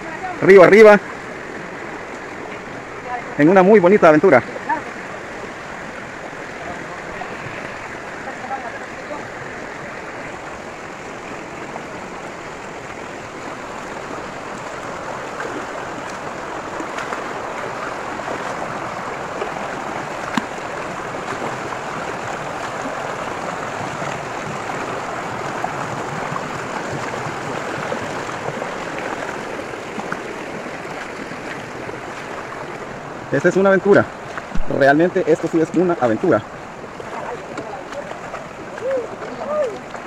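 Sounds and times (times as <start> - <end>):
river rushing over stones: 0.0 - 40.0.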